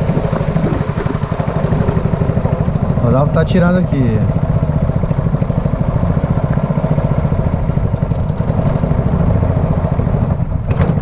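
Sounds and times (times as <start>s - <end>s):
small boat engine puttering: 0.0s - 11.0s.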